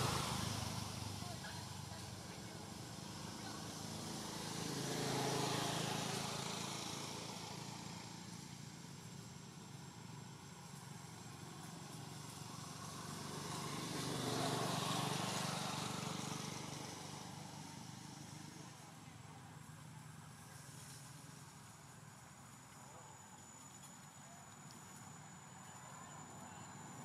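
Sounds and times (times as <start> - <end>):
vehicles passing by: 0.0 - 27.0.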